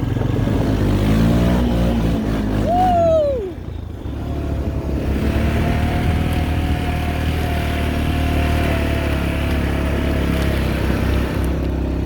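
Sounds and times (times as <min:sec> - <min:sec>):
quad engine running: 0:00.0 - 0:12.0.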